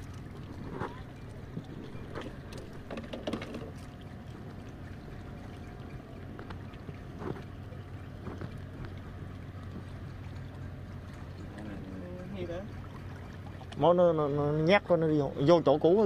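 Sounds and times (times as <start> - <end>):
low machine hum: 0.0 - 16.0
water sloshing against boat: 0.0 - 16.0.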